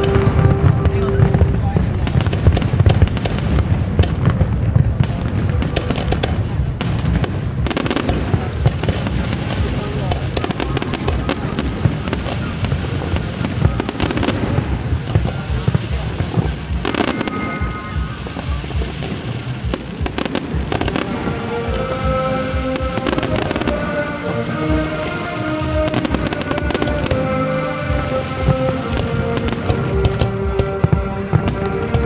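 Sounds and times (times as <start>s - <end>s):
fireworks crackling: 0.0s - 32.0s
shell explosions rumbling: 0.0s - 32.0s.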